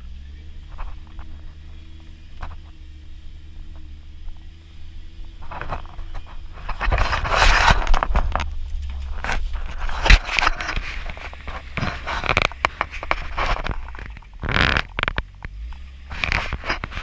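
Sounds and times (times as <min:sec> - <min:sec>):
off-road vehicle engine running: 0:00.0 - 0:17.0
scraping and rattling: 0:00.4 - 0:17.0.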